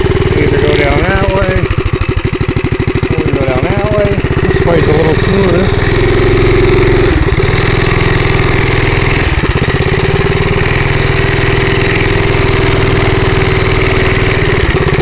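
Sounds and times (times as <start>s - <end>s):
small minibike engine running: 0.0s - 15.0s.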